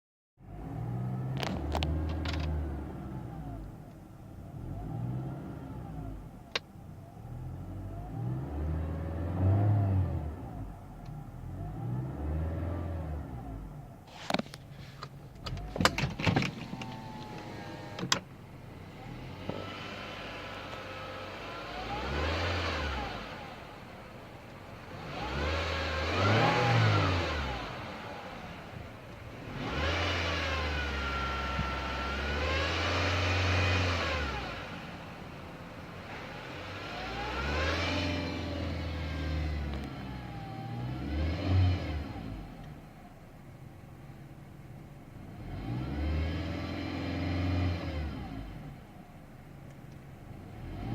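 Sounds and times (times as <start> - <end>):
car engine revving with whine: 0.4 - 50.9.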